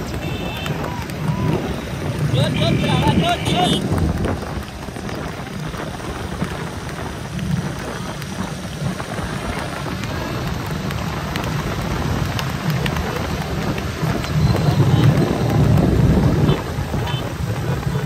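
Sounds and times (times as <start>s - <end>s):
motorcycle engines rumbling: 0.0s - 18.0s
wind buffeting microphone: 0.0s - 18.0s.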